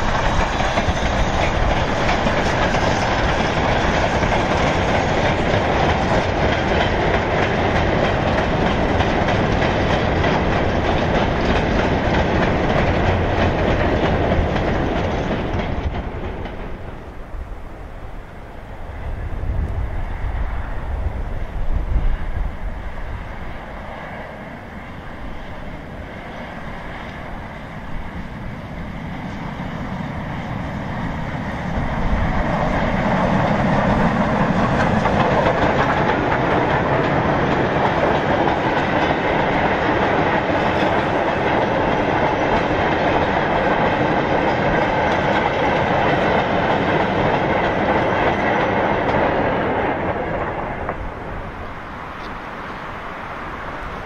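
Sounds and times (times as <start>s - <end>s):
freight train rumbling and clattering: 0.0s - 54.0s.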